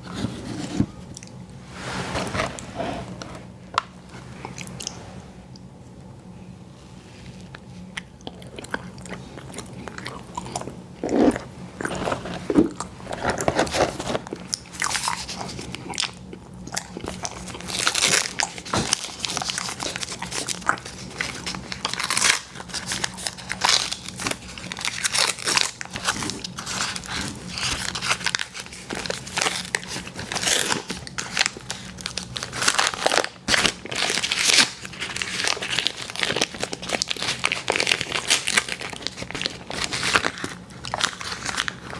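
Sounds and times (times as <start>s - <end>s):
person chewing crunchy food: 7.4s - 41.9s.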